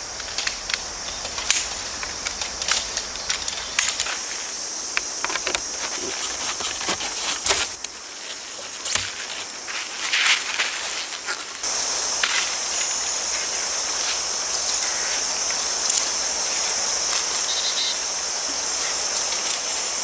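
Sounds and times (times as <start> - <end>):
grass insects chirping: 0.0 - 20.0
light clicks and clinks: 0.1 - 4.3, 4.9 - 9.7, 11.6 - 20.0.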